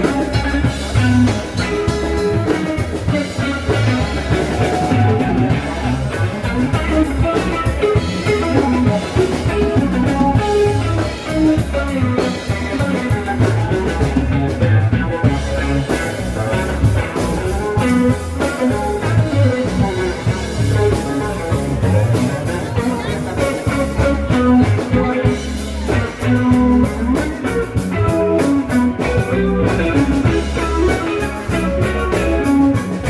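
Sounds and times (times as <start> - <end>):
bass line: 0.0 - 33.0
drum kit: 0.0 - 33.0
guitar: 0.0 - 33.0.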